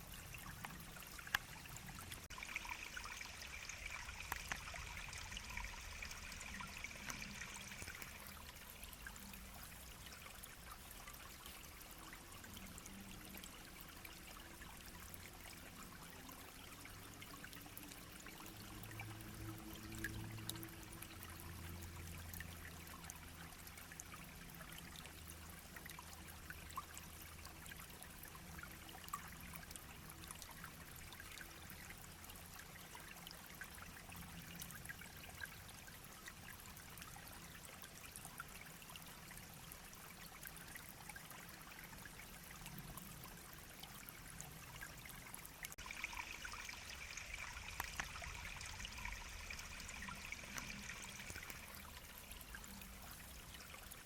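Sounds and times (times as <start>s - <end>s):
stream trickling over stones: 0.0s - 54.0s.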